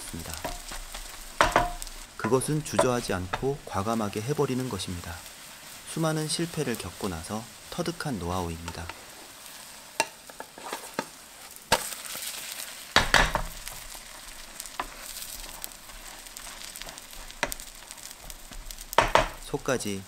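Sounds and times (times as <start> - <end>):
wooden spatula scraping a pan: 0.0 - 19.6
omelette sizzling in a pan: 0.0 - 20.0.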